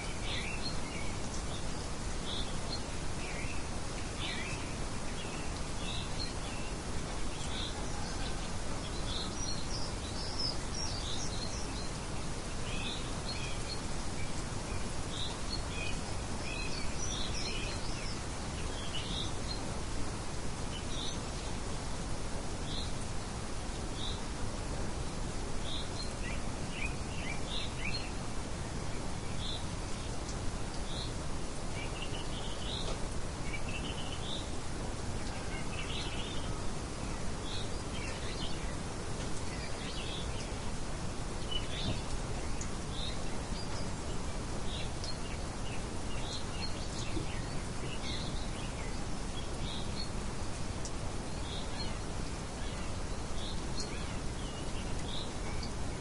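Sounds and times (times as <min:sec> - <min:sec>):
breeze hiss: 0:00.0 - 0:56.0
small birds chirping: 0:00.0 - 0:56.0.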